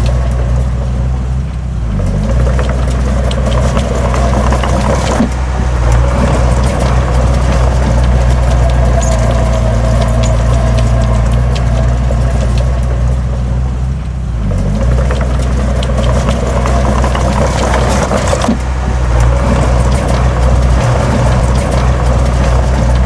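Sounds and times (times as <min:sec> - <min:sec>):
heavy diesel engine running: 0:00.0 - 0:23.0
metallic clanks and rattles: 0:00.0 - 0:23.0.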